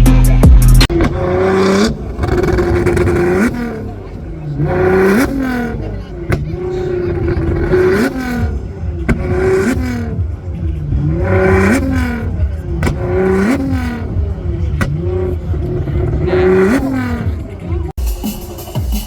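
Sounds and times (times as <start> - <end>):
engine pops: 0.0 - 18.0
car engine revving: 0.0 - 18.6
heavy bass music: 0.0 - 19.0.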